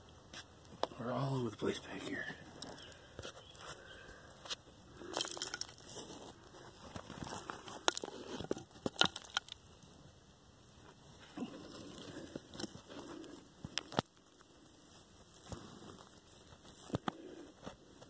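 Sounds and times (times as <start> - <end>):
crunching and scraping on dry dirt: 0.2 - 18.0.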